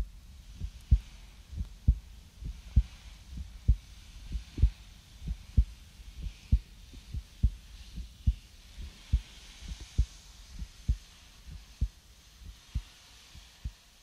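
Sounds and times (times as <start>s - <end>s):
slow heartbeat thumps: 0.0s - 14.0s
soft hiss: 0.0s - 14.0s.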